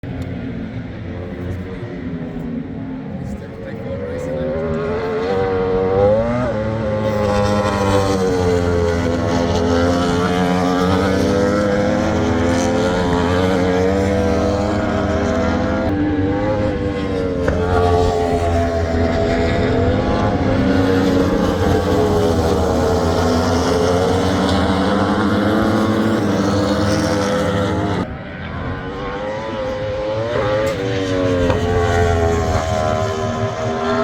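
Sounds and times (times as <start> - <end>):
superbike engines racing: 0.0 - 34.0.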